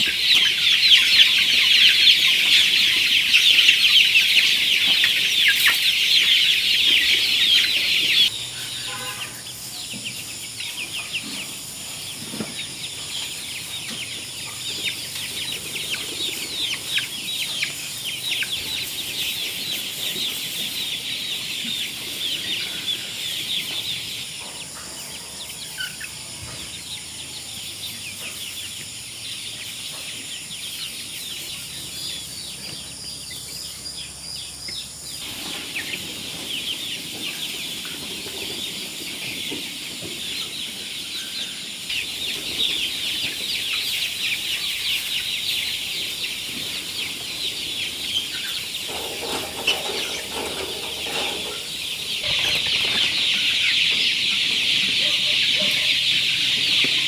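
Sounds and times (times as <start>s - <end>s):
chickens cheeping and clucking: 0.0s - 57.0s.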